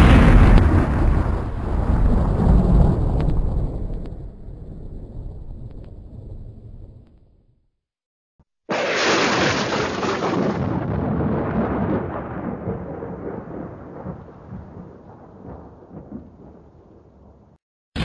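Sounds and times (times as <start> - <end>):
thunder rolling rumble: 0.0 - 7.3, 8.7 - 18.0.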